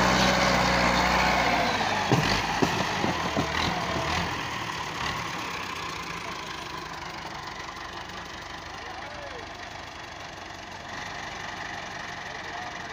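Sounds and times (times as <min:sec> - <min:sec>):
diesel tractor engine labouring: 0:00.0 - 0:12.9.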